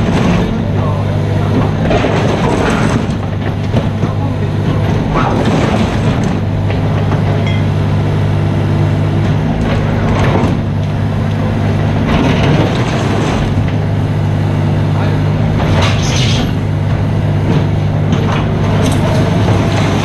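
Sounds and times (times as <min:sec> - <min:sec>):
excavator diesel engine running: 0:00.0 - 0:20.0
excavator work noise surges: 0:00.0 - 0:20.0.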